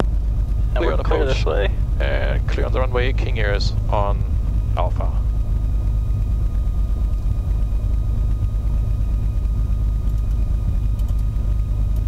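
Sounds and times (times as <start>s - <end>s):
piston aircraft engine rumble: 0.0s - 12.0s.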